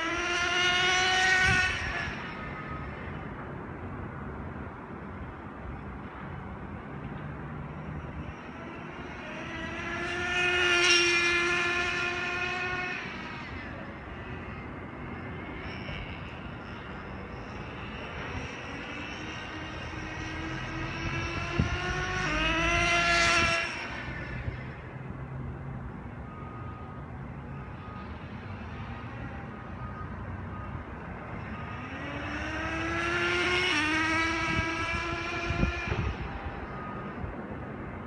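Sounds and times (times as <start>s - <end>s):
rc car engine whine passing: 0.0s - 38.0s.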